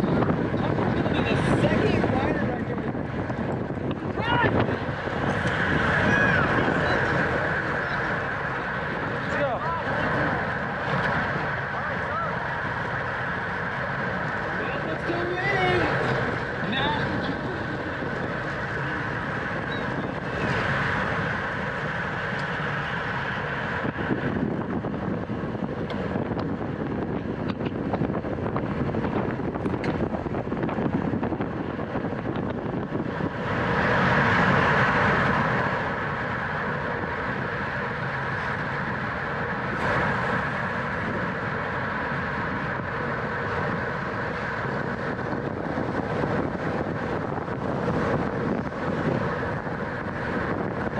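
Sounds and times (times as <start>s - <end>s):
road noise: 0.0s - 50.9s
wind rushing over microphone: 0.0s - 50.9s.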